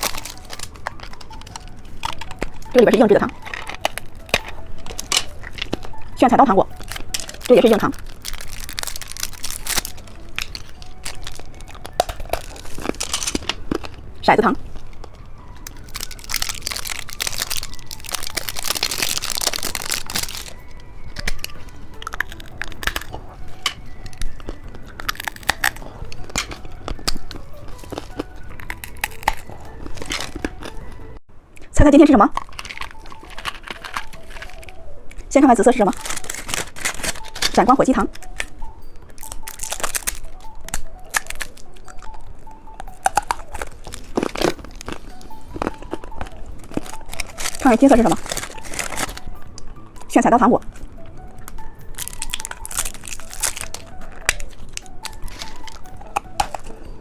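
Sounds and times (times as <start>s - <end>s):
plastic packaging crinkling: 0.0s - 31.2s, 32.4s - 57.0s.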